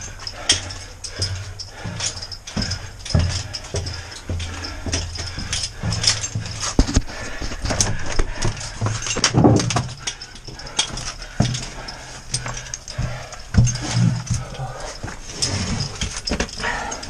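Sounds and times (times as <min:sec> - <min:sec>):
heavy breathing: 0:00.0 - 0:17.0.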